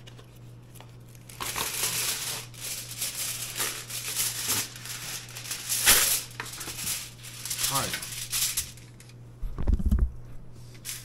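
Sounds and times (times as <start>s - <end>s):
aluminium foil crinkling: 0.0s - 9.2s.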